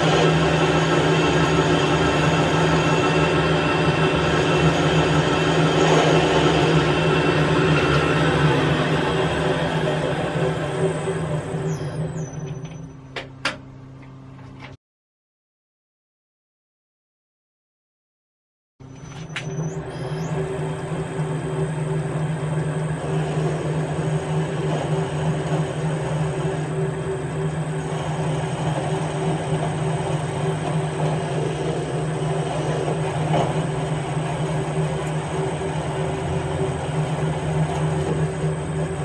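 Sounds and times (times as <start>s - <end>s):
metal lathe humming: 0.0s - 13.2s, 18.9s - 39.0s.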